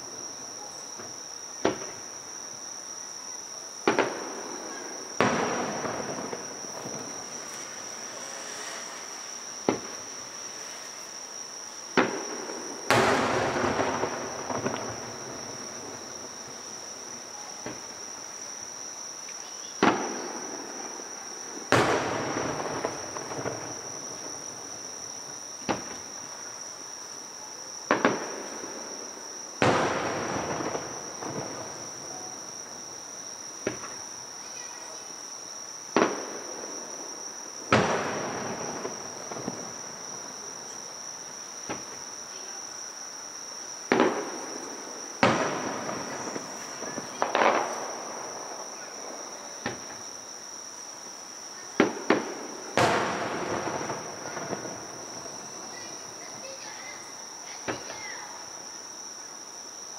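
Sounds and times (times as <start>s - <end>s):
distant fireworks bursting: 0.0s - 56.7s
high insect trill: 0.0s - 59.9s.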